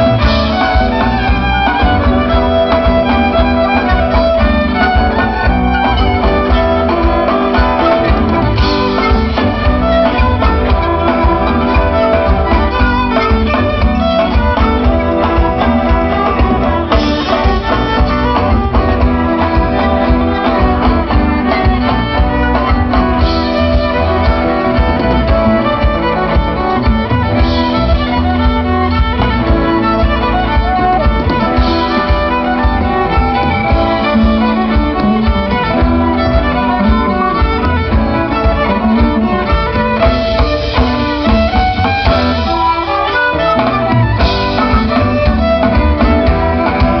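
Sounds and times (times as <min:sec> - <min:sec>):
bowed violin: 0:00.0 - 0:47.0
folk band playing live: 0:00.0 - 0:47.0.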